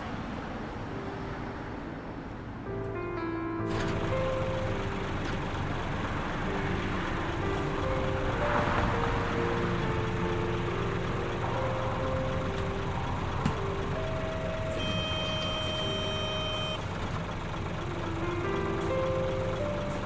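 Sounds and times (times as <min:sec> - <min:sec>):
combine harvester rumble: 0:01.9 - 0:20.0
background music of held notes: 0:02.6 - 0:20.0.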